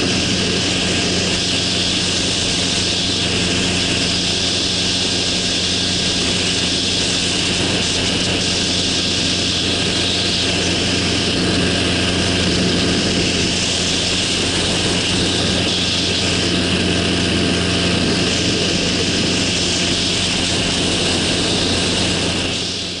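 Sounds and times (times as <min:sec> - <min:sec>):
rushing air hiss: 0:00.0 - 0:23.0
small engine and propeller droning: 0:00.0 - 0:23.0.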